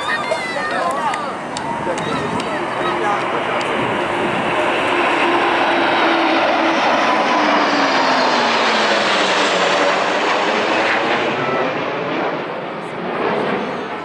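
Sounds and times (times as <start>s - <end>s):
military aircraft engine roar: 0.0s - 14.0s.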